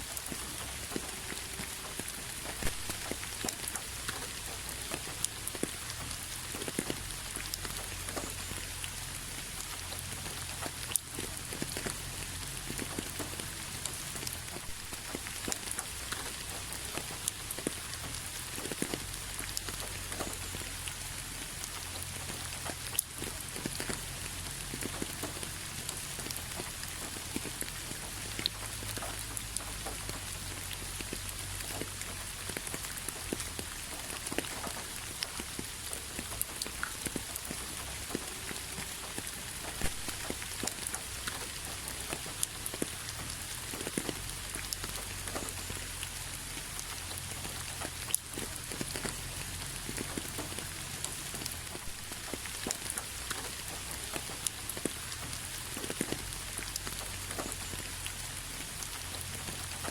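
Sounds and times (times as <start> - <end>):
rain pattering on hard surface: 0.0 - 59.9.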